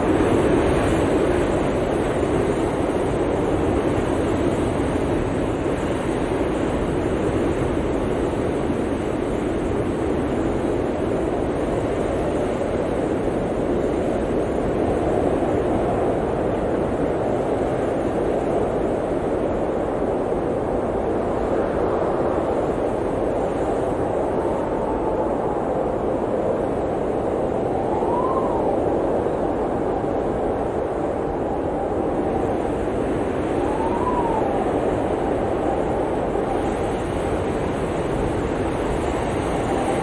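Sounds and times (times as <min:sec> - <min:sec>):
blizzard wind blowing: 0:00.0 - 0:40.0.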